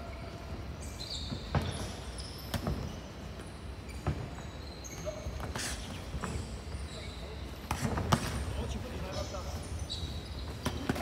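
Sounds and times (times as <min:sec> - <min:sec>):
athletic shoes squeaking: 0:00.0 - 0:11.0.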